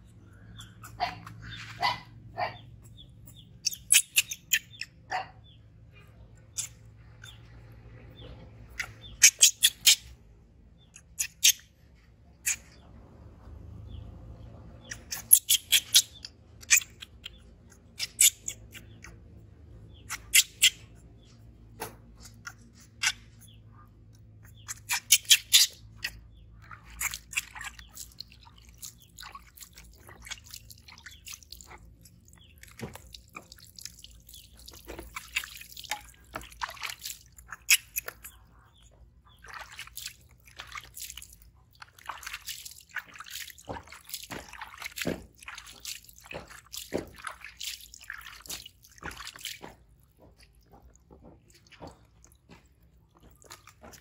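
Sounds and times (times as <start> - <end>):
water splashing and dripping: 6.4 - 10.2, 13.4 - 54.0.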